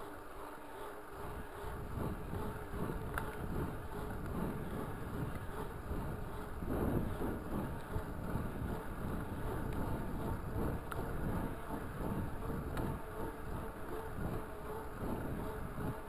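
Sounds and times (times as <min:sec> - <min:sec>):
faint ticks: 0:00.0 - 0:16.0
wind buffeting microphone: 0:01.2 - 0:16.0.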